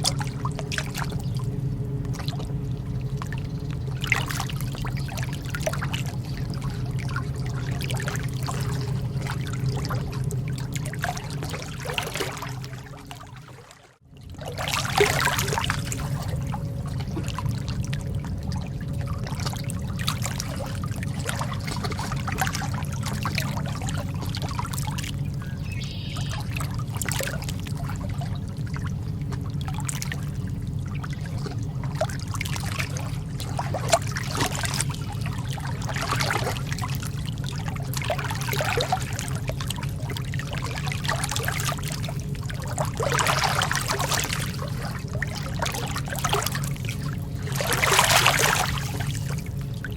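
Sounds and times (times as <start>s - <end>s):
lake water lapping: 0.0s - 49.9s
steady low rumble: 0.0s - 49.9s.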